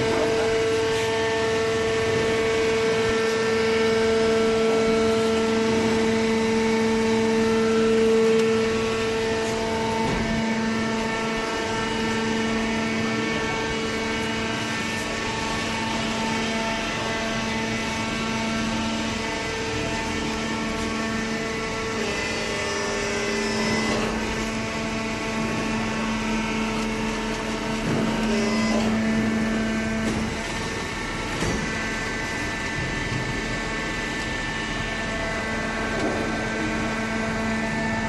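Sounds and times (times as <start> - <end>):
motor and hydraulic pump humming: 0.0 - 38.0.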